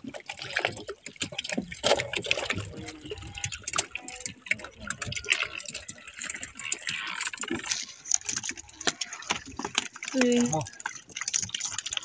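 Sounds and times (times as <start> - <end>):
water drips: 0.0 - 12.0
water lapping against boat hull: 0.0 - 12.0.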